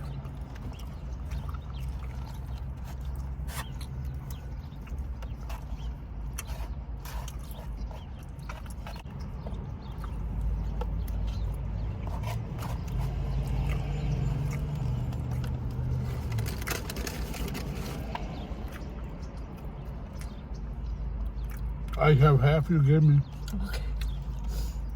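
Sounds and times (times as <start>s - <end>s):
chewing mouth clicks and smacks: 0.0s - 22.2s, 23.2s - 24.9s.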